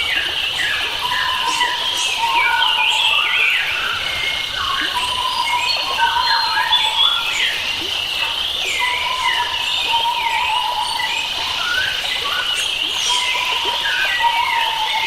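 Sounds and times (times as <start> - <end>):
birds whistling and chirping: 0.0 - 7.6, 8.6 - 15.0.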